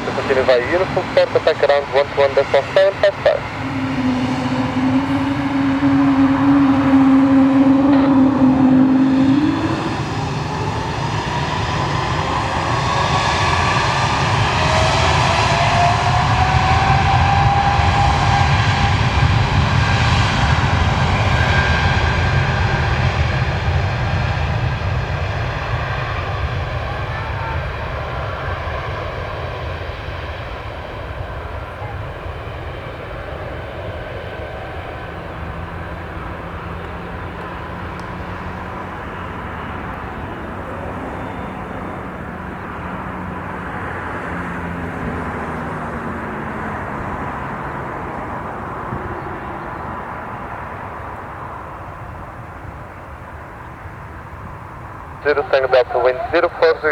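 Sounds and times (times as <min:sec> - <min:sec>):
jet engines roaring: 0:00.0 - 0:56.9.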